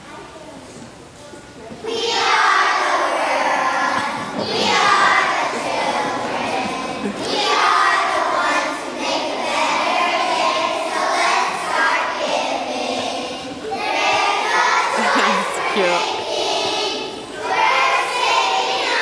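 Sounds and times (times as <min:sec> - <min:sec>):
children singing in unison: 0:01.9 - 0:19.0.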